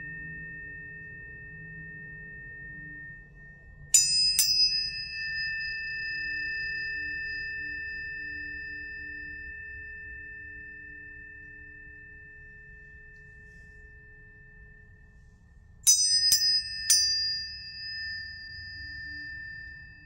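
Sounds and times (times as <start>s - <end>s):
tuning forks ringing: 0.0s - 20.0s.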